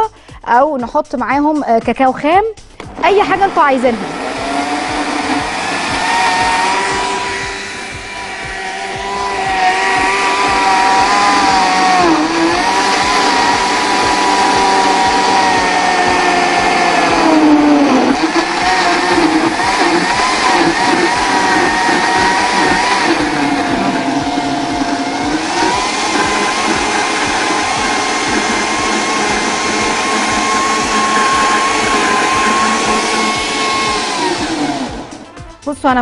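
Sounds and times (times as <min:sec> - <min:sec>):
blender motor whining: 0:02.8 - 0:35.7.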